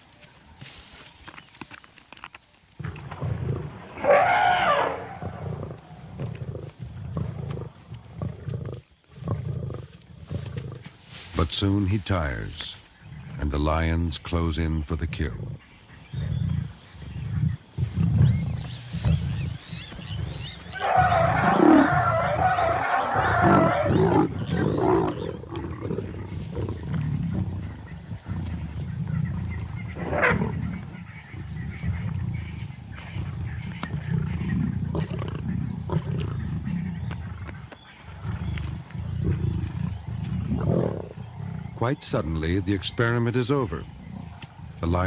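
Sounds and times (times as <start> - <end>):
lions growling: 2.8 - 10.9, 15.0 - 45.0.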